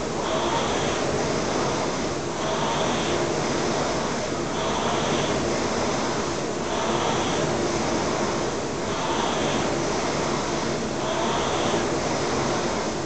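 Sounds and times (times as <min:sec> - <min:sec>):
rowing machine flywheel whooshing: 0:00.0 - 0:13.0.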